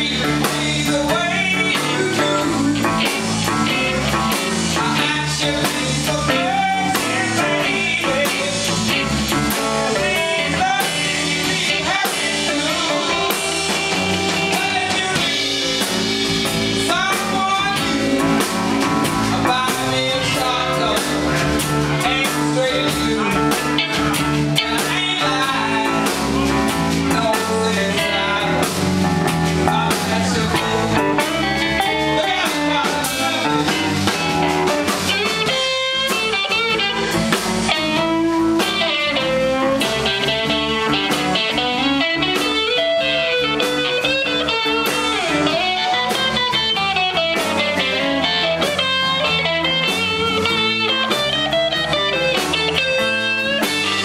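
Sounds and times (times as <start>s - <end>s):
electric blues band playing: 0.0s - 54.0s.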